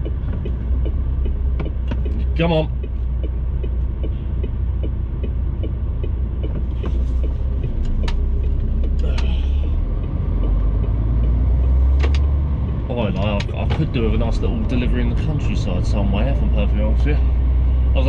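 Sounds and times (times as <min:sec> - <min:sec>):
diesel truck engine rumbling: 0:00.0 - 0:18.0
light ticking: 0:00.0 - 0:18.0.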